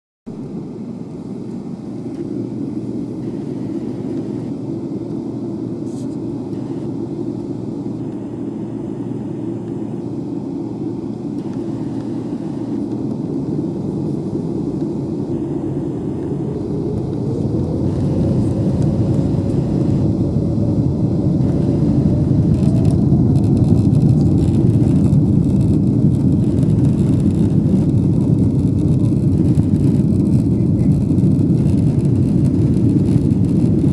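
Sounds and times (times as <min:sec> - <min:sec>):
jet engine cabin rumble: 0:00.3 - 0:33.9
jet engine rising whine: 0:00.3 - 0:33.9.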